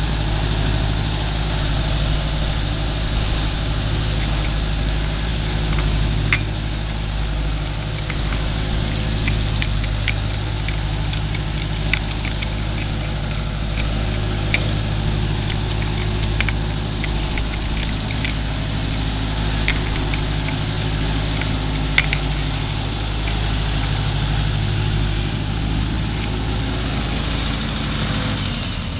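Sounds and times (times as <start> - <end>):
backhoe engine running: 0.0 - 28.9.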